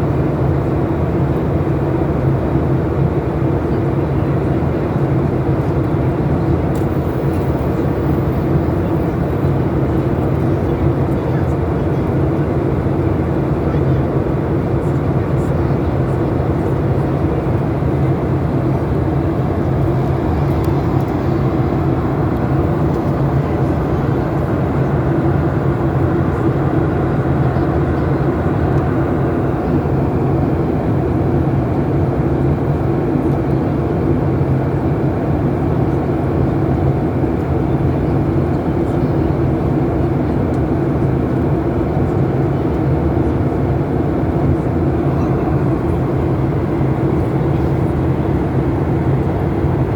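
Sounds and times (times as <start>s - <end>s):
airliner cabin drone: 0.0s - 49.9s.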